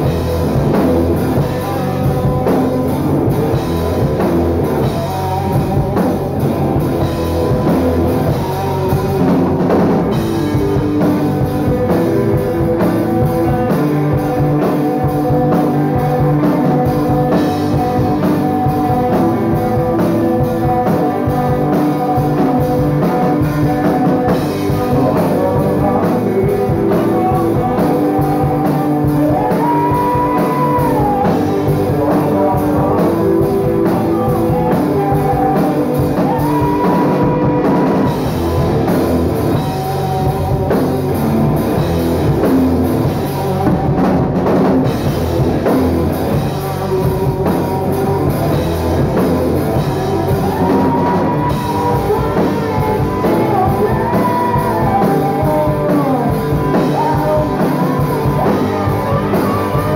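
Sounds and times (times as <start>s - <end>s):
rock band playing live: 0.0s - 59.9s
man singing long held notes: 1.2s - 41.3s, 49.7s - 59.9s.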